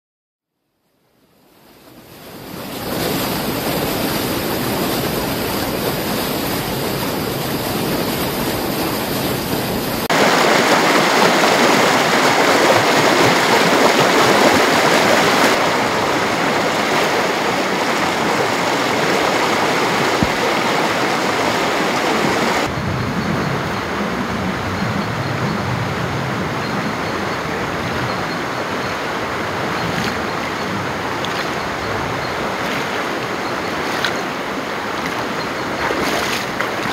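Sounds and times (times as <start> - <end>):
river rushing: 1.5 - 36.9.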